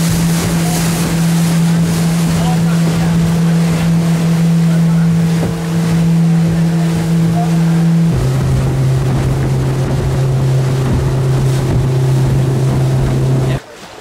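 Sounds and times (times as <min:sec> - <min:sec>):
motorboat engine running: 0:00.0 - 0:13.6
water and wind noise: 0:00.0 - 0:14.0.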